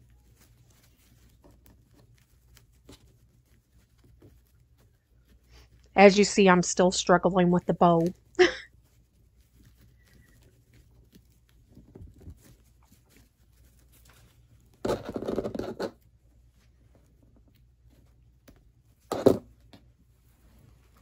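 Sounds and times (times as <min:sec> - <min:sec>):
ribbon rustling: 0:00.0 - 0:06.6, 0:07.2 - 0:21.0.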